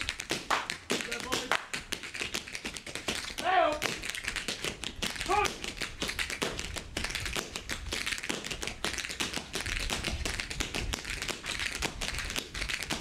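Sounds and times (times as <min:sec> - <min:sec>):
tap shoes striking floor: 0:00.0 - 0:13.0.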